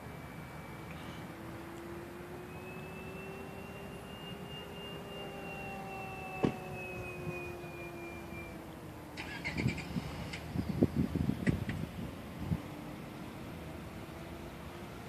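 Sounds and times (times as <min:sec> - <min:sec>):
model plane motor whining overhead: 0:00.0 - 0:15.0.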